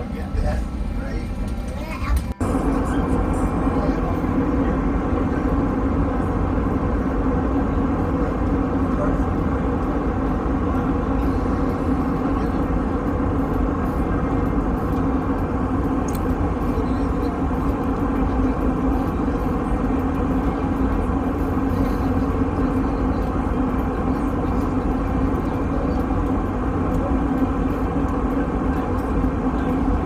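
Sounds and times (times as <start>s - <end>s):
jet airliner cabin drone: 0.0s - 30.0s.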